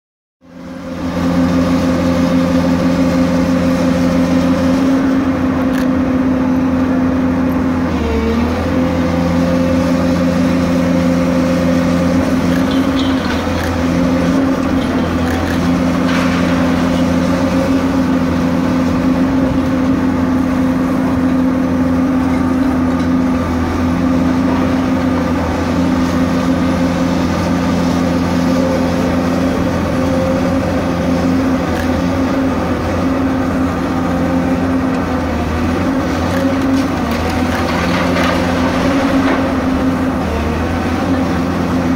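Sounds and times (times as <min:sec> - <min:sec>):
excavator diesel engine running: 0:00.5 - 0:41.9.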